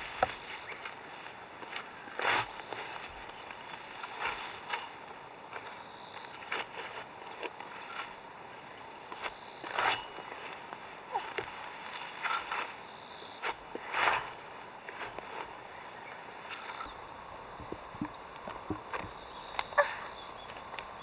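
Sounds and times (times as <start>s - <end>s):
insect chorus: 0.0s - 21.0s
rustling and footsteps: 0.0s - 21.0s.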